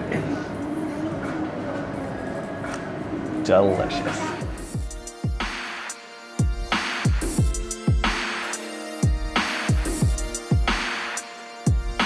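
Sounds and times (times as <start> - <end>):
held synth chords: 0.0 - 12.0.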